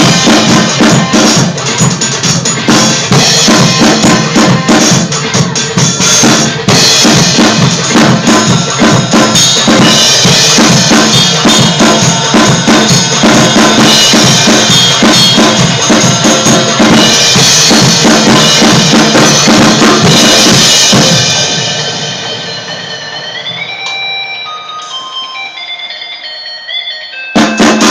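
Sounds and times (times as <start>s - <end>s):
drum kit played fast: 0.0s - 25.0s, 27.4s - 27.9s.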